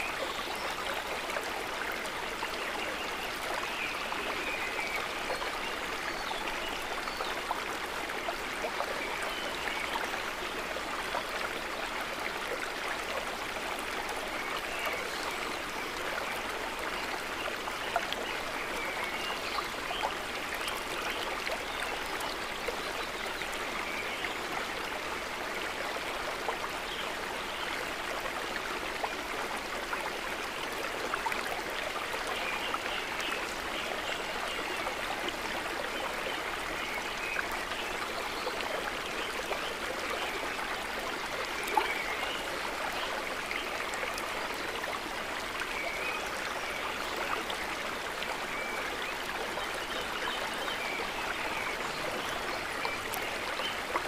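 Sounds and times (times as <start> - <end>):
water trickling and babbling: 0.0 - 54.0.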